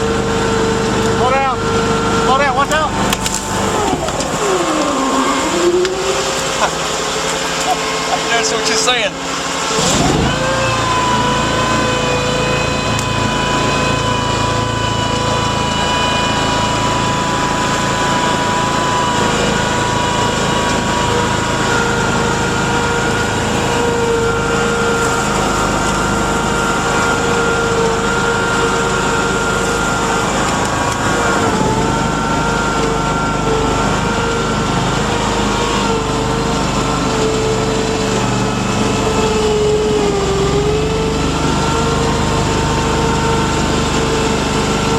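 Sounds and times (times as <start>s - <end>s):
vehicle engine with high whine: 0.0s - 44.9s.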